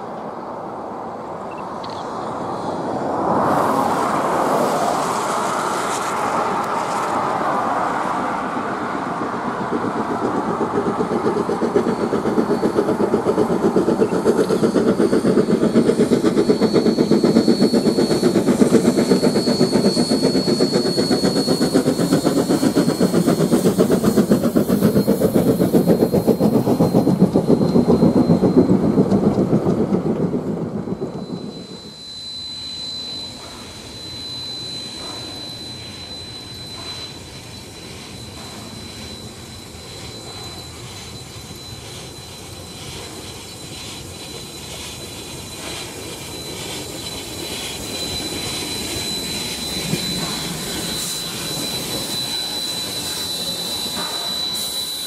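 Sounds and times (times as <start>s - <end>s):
steam locomotive exhaust beats: 2.4s - 55.0s.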